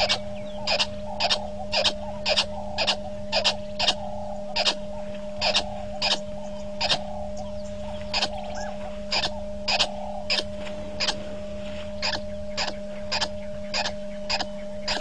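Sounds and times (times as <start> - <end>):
animal clicking calls: 0.0 - 11.2, 12.0 - 15.0
steady electrical hum: 0.0 - 15.0.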